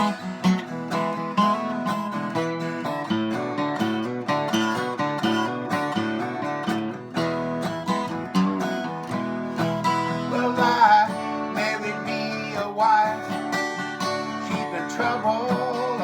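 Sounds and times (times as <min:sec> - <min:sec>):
acoustic guitar strumming melody: 0:00.0 - 0:16.0.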